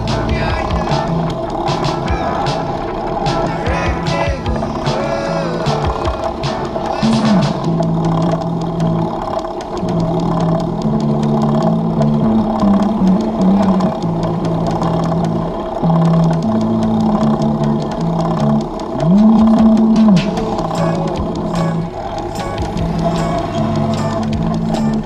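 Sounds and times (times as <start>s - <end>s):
background music with bass line: 0.0s - 25.0s.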